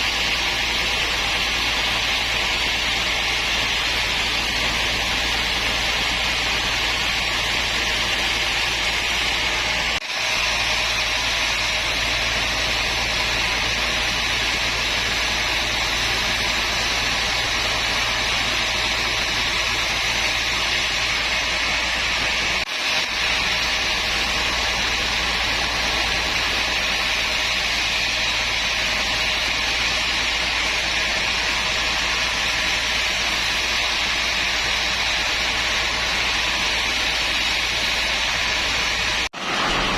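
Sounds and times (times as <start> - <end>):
woodworking machine droning: 0.0 - 39.9.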